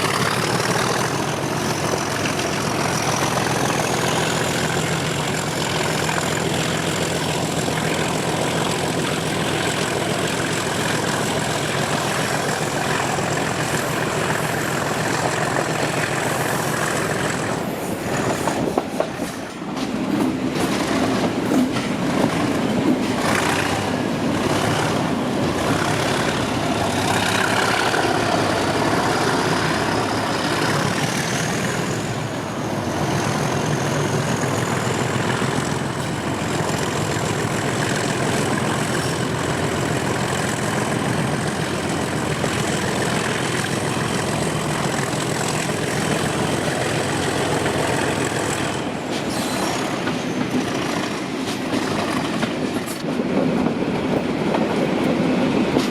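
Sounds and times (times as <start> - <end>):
diesel locomotive engine: 0.0 - 55.9
train running on rails: 0.0 - 55.9.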